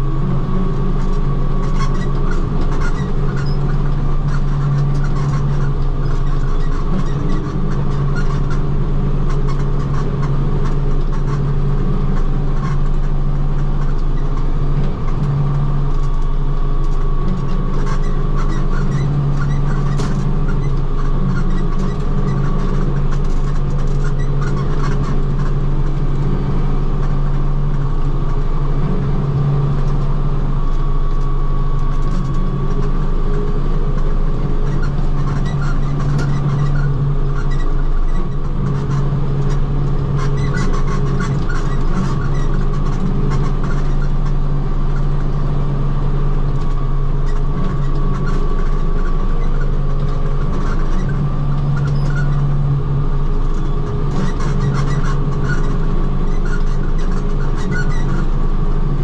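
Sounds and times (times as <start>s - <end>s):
tractor mowing drone: 0.0s - 59.0s.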